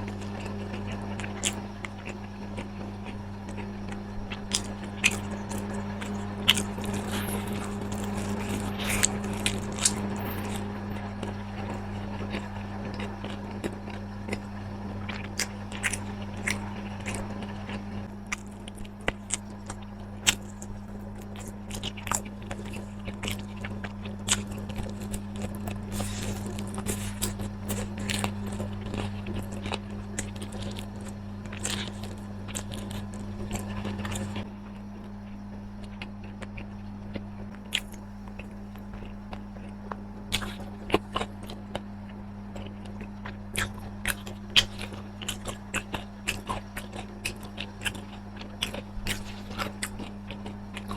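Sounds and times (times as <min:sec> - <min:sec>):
crunchy bites and chewing: 0:00.0 - 0:50.9
steady low hum: 0:00.0 - 0:50.9.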